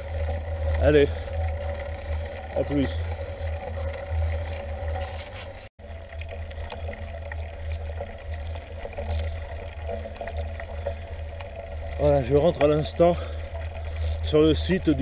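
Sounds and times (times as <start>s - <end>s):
tyre hum: 0.0s - 15.0s
wind and road rumble: 0.0s - 15.0s.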